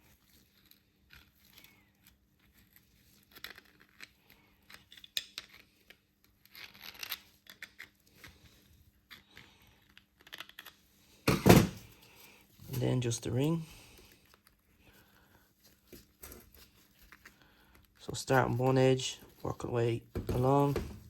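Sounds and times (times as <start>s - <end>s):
faint clicks scrapes and rustles: 0.0s - 10.9s, 12.0s - 20.7s.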